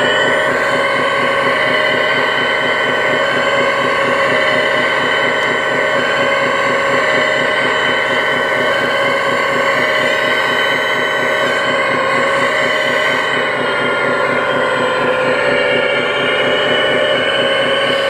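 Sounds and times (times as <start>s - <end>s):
hydraulic pump whining: 0.0s - 18.0s.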